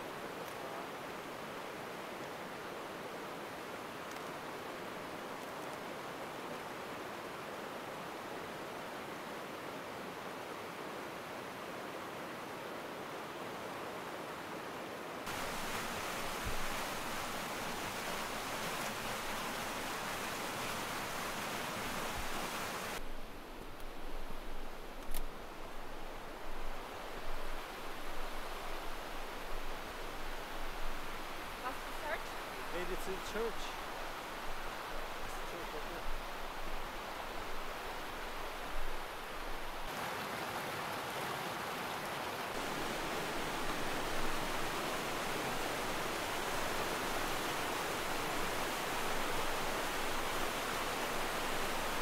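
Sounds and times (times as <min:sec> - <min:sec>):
stream rushing: 0:00.0 - 0:52.0.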